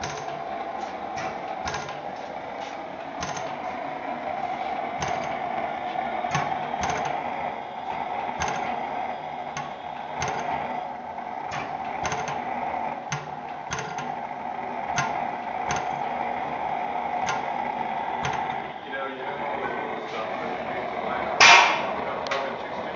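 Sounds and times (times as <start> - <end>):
engine firing cracks: 0.0 - 22.9
steady mechanical clatter: 0.0 - 22.9.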